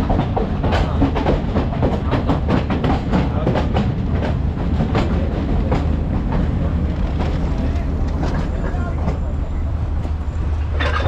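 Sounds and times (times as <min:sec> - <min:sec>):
train carriage rumbling: 0:00.0 - 0:11.0
train wheels clattering over rail joints: 0:00.0 - 0:11.0.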